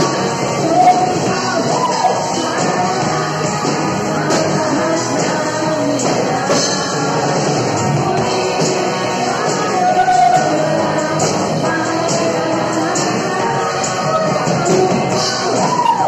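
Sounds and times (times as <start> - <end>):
drums: 0.0 - 16.0
electric guitars: 0.0 - 16.0
man singing: 0.0 - 16.0
woman singing: 0.0 - 16.0.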